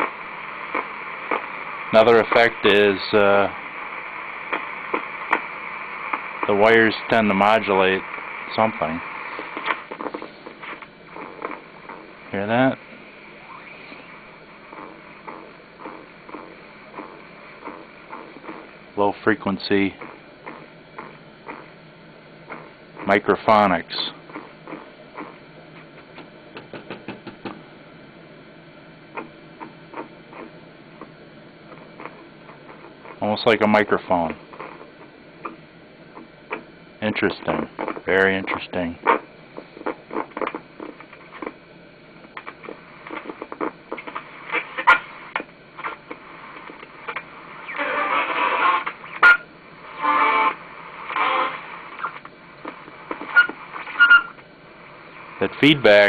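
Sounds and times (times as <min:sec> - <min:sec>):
radio crackling and buzzing: 0:00.0 - 0:56.0
steady low hum: 0:00.0 - 0:56.0.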